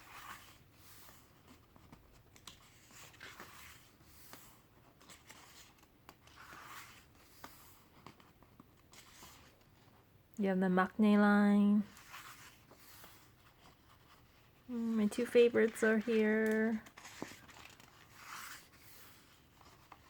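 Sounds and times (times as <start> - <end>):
paper pages turning: 0.0 - 10.0, 11.8 - 20.0.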